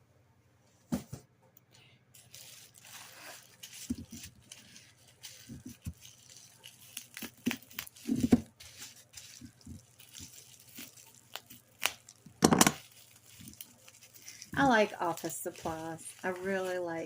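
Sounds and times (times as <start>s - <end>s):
packaging rustling and tearing: 2.2s - 17.0s.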